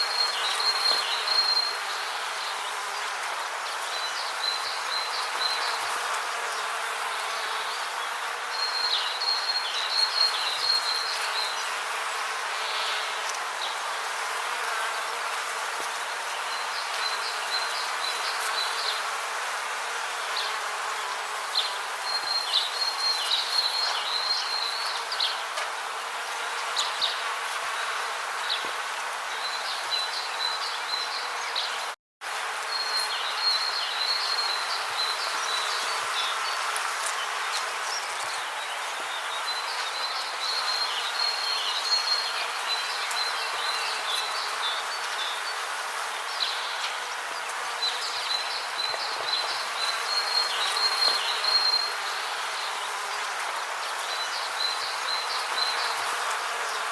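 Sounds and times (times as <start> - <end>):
steady rain forest hiss: 0.0 - 56.9.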